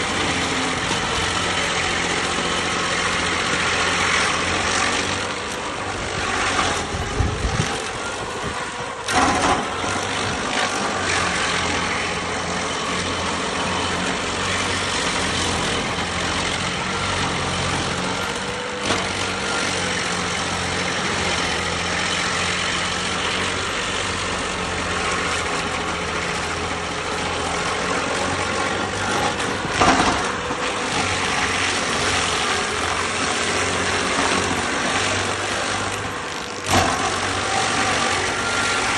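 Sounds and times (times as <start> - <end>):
stump grinder engine running: 0.0 - 38.9.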